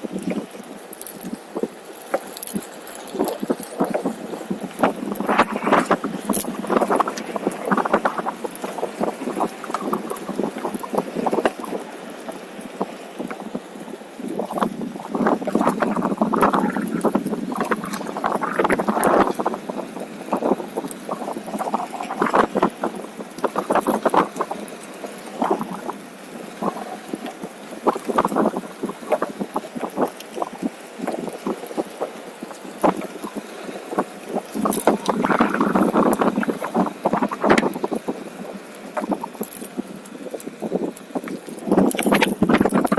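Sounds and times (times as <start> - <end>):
wind buffeting microphone: 0.0 - 42.9
tyre rolling on trail: 0.1 - 42.9.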